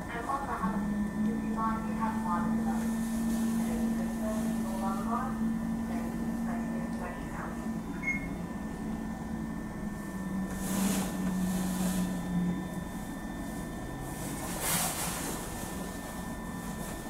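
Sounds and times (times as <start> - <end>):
train mechanical hum: 0.0 - 17.0
low hum: 0.3 - 14.4.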